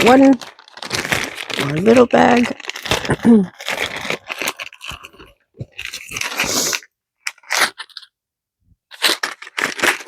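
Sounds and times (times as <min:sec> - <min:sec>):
plastic bag crinkling and tearing: 0:00.0 - 0:08.1, 0:08.9 - 0:10.0.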